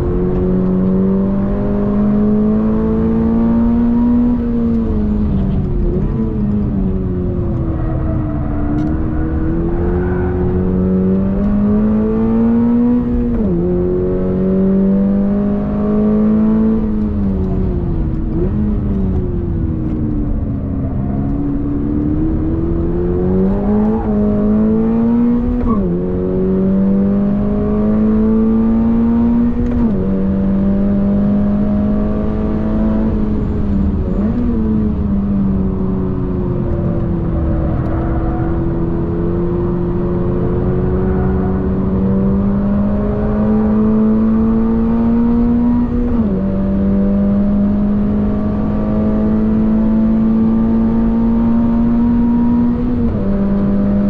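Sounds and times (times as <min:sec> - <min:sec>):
car engine revving through gears: 0:00.0 - 0:54.0
road and tyre rumble: 0:00.0 - 0:54.0.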